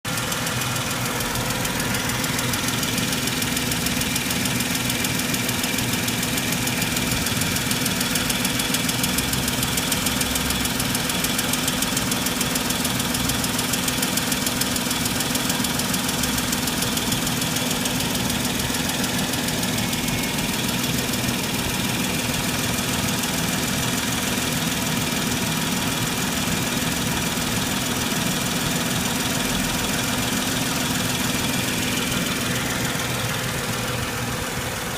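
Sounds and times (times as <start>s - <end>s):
car engine idling: 0.1s - 34.9s
rapid clacking from engine: 0.1s - 34.9s.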